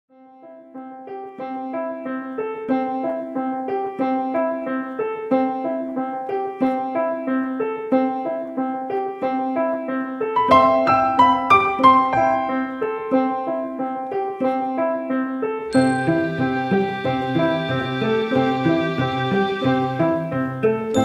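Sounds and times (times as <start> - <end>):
gentle piano music: 0.1 - 21.0.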